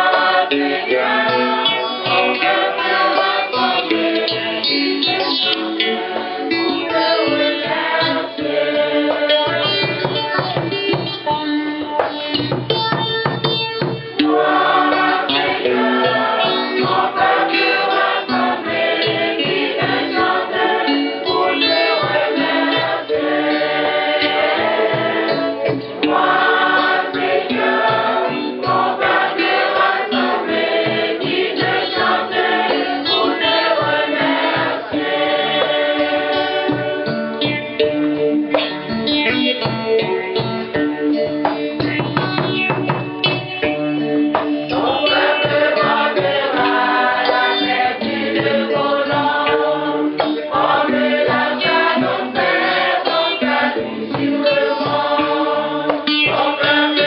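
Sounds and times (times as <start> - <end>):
choir singing a hymn: 0.0 - 10.1, 14.2 - 38.1, 44.7 - 57.0
instrumental accompaniment: 0.0 - 57.0
steady beat: 0.0 - 57.0.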